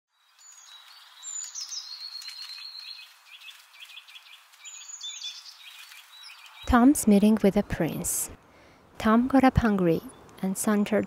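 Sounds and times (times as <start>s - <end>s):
songbirds singing: 0.1s - 9.0s, 9.6s - 11.0s
outdoor ambience hiss: 0.2s - 11.0s.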